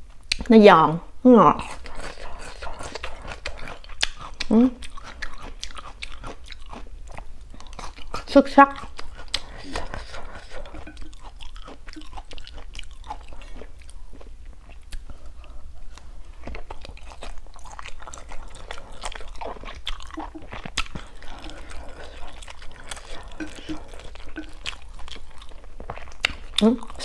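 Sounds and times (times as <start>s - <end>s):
chewing and wet mouth sounds: 1.5s - 27.0s.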